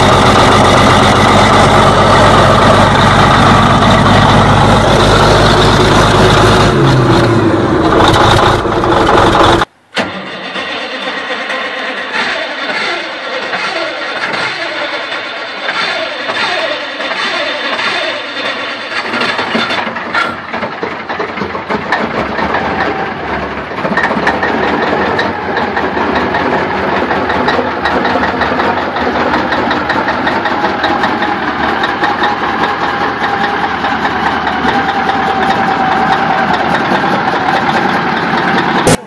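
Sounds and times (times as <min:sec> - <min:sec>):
diesel truck engine idling: 0:00.0 - 0:09.7, 0:14.6 - 0:39.0.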